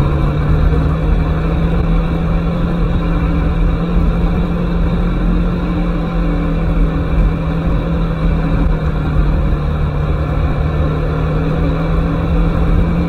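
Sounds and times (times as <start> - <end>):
low rumble: 0.0 - 13.0
motorcycle engine running: 0.0 - 13.0.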